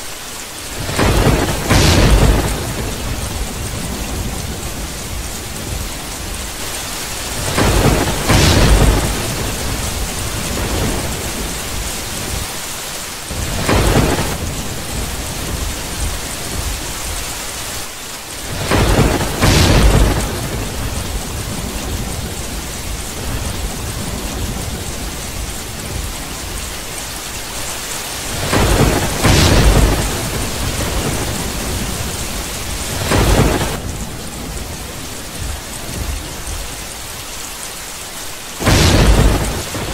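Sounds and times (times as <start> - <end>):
steady rain hissing: 0.0 - 39.9
thunder cracking and rumbling: 0.7 - 12.6, 13.3 - 17.8, 18.4 - 37.4, 38.6 - 39.9.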